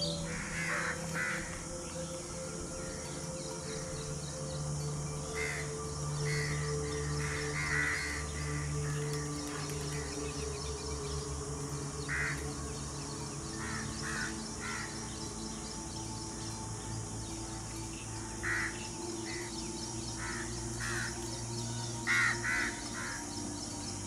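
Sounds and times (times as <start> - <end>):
low background music: 0.0 - 24.0.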